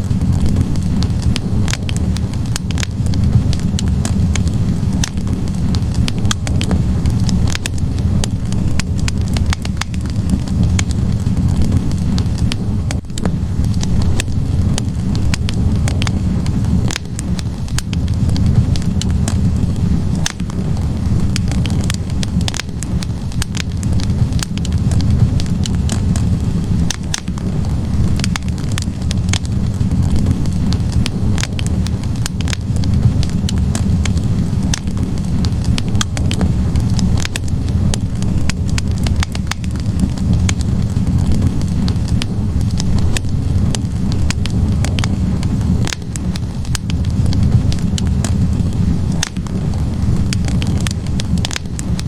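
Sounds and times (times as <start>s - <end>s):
logs crackling and popping: 0.0s - 52.0s
wood fire flames rushing: 0.0s - 52.0s.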